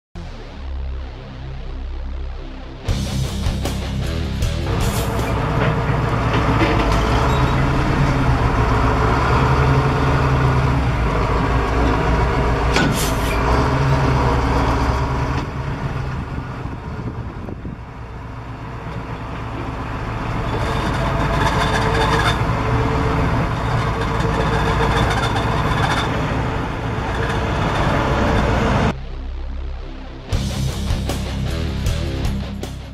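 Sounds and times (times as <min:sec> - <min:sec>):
truck engine running: 0:00.2 - 0:32.9.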